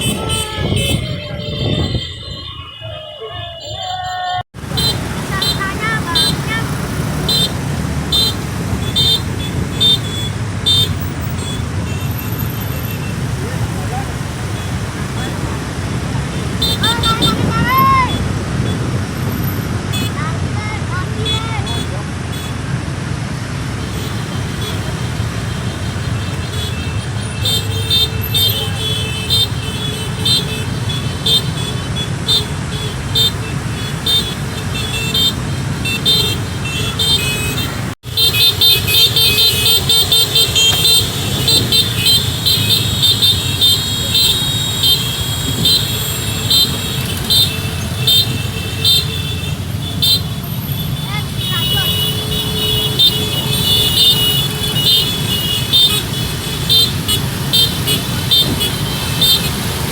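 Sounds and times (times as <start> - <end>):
vehicle horns honking: 0.0 - 20.3, 21.1 - 22.6, 23.7 - 59.9
engine and traffic noise: 0.0 - 59.9.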